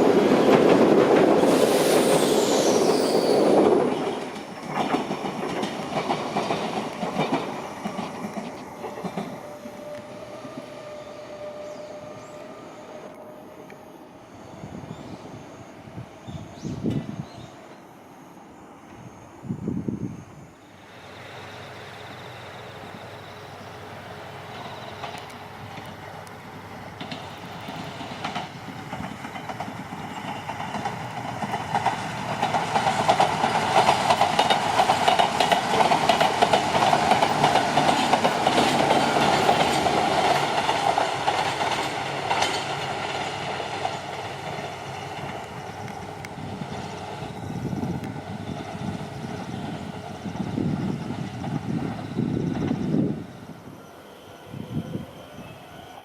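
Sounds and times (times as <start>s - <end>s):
electric train running past: 0.0s - 56.0s.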